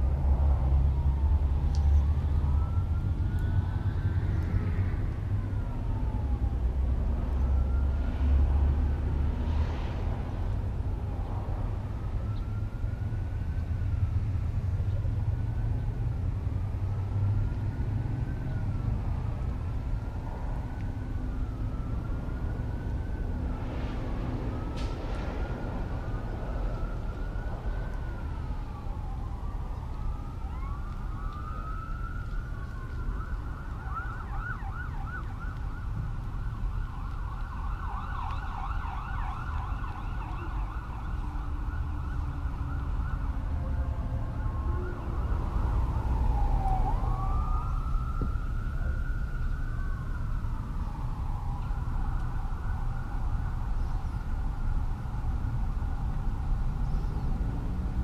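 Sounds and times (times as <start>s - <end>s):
emergency vehicle siren: 0.0s - 58.0s.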